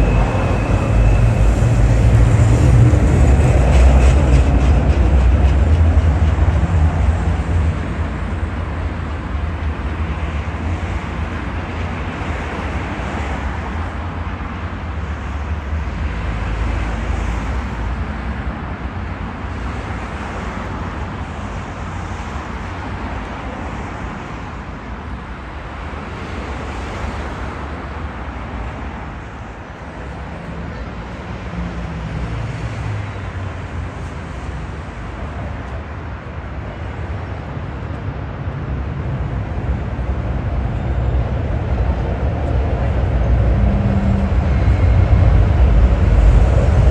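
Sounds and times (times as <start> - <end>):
city road traffic: 0.0 - 46.9
tram rumbling: 0.0 - 46.9.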